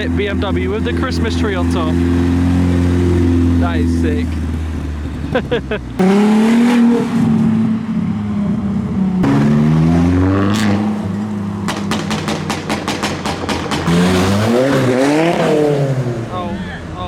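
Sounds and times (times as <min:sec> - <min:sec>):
engine revving: 0:00.0 - 0:16.6
car engines driving past: 0:00.0 - 0:17.0
exhaust crackles: 0:00.0 - 0:17.0.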